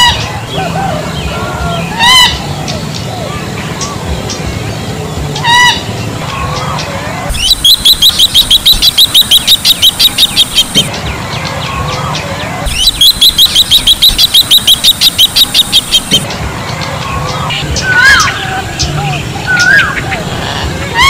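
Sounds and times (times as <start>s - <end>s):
bird calling rapid high notes: 0.0s - 21.0s.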